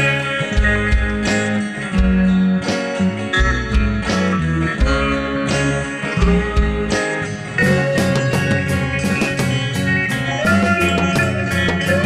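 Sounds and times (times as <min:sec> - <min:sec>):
bass line: 0:00.0 - 0:12.0
psychedelic rock guitar: 0:00.0 - 0:12.0.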